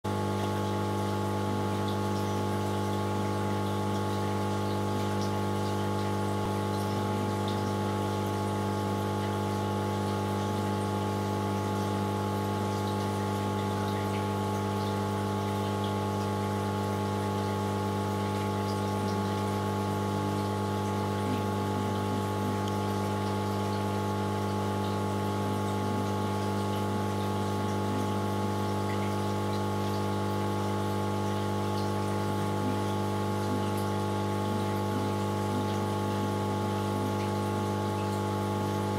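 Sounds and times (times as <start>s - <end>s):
aquarium pump humming: 0.0s - 38.9s
moving water: 0.1s - 38.9s.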